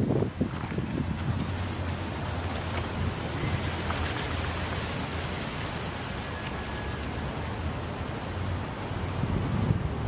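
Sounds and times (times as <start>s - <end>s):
wind buffeting microphone: 0.0s - 4.0s, 4.9s - 10.0s.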